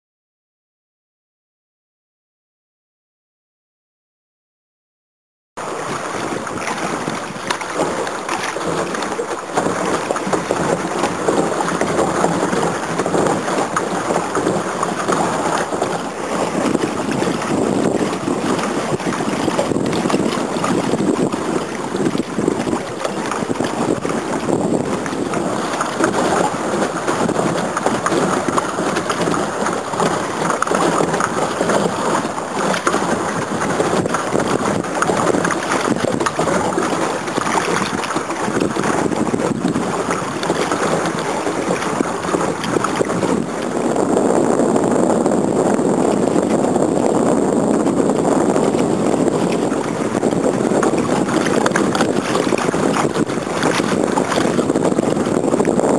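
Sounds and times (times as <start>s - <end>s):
water splashing against hull: 5.6s - 55.9s
wind buffeting microphone: 5.6s - 55.9s.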